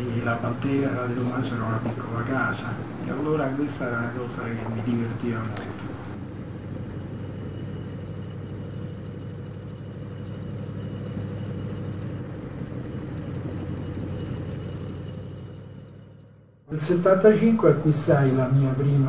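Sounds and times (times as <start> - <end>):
racing car engine running: 0.0 - 19.0.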